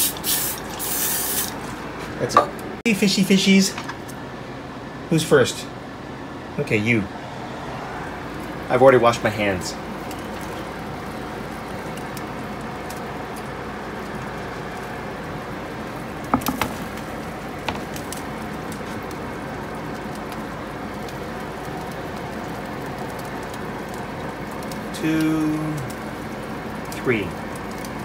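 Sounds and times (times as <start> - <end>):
fish grill hissing: 0.0 - 2.0, 7.2 - 28.0.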